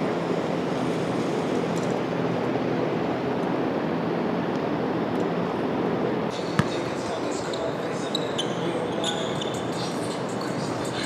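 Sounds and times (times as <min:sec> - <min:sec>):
floor fans blowing air: 0:00.0 - 0:11.0.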